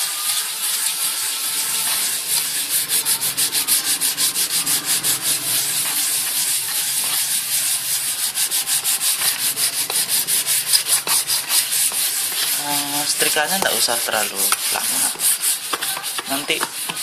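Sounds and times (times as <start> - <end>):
iron rubbing over paper: 0.0 - 17.0.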